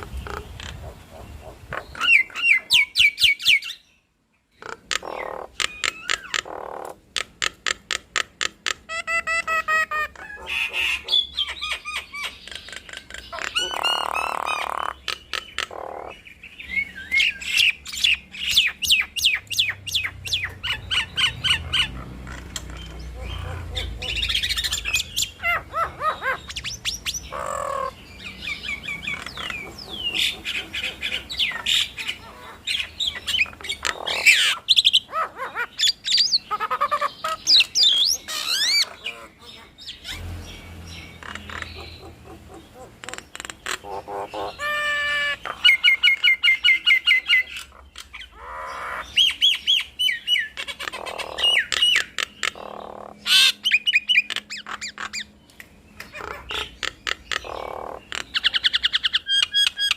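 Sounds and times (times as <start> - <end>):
mynas calling: 0.0 - 3.9, 4.5 - 59.9.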